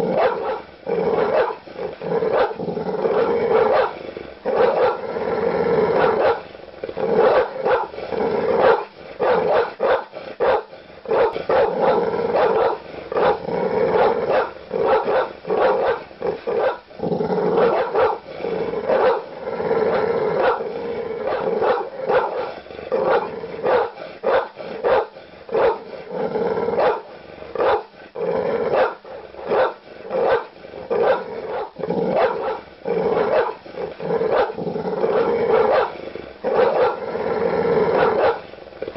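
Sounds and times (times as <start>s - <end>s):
large dogs barking aggressively: 0.0s - 5.1s, 5.7s - 38.9s.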